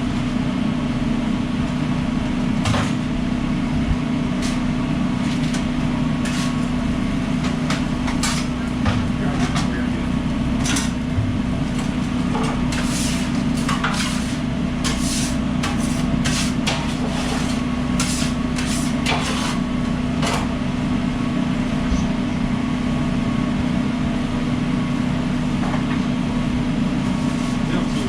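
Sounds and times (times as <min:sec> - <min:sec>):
low machine drone: 0:00.0 - 0:28.0.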